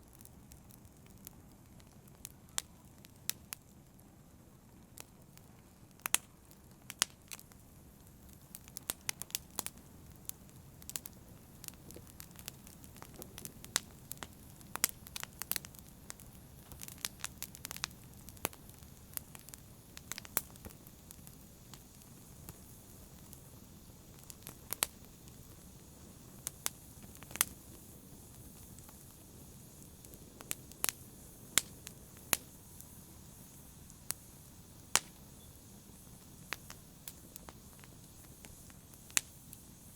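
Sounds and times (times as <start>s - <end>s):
burning wood crackling and popping: 0.0s - 39.9s
flames hissing: 0.0s - 39.9s.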